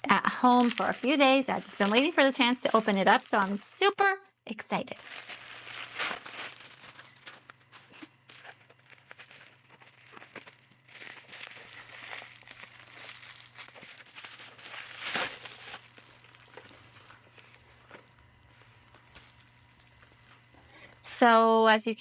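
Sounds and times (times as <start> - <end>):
packaging crinkling and tearing: 0.0 - 3.6, 5.0 - 21.0.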